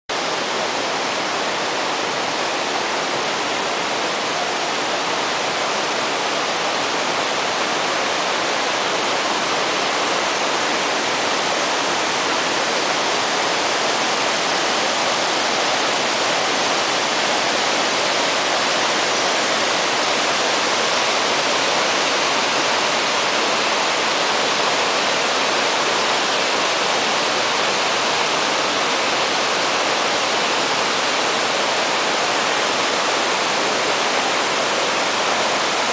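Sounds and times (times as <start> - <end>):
mountain stream tumbling: 0.1 - 35.9
waterfall rushing: 0.1 - 35.9.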